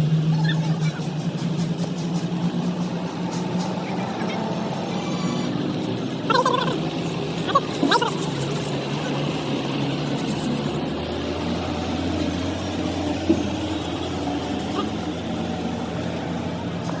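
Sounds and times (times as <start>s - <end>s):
heavy truck engine idling: 0.0s - 17.0s.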